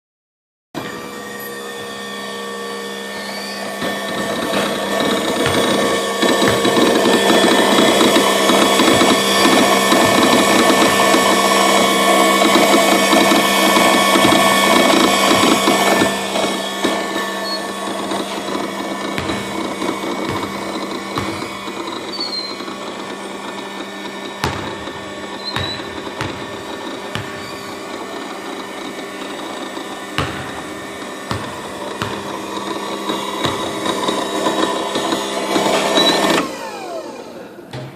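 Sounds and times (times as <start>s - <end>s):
mechanical hum: 0.8s - 37.9s.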